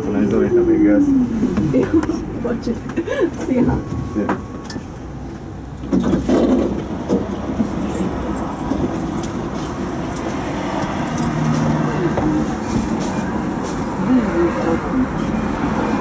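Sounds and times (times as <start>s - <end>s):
tram interior rumble: 0.0s - 16.0s.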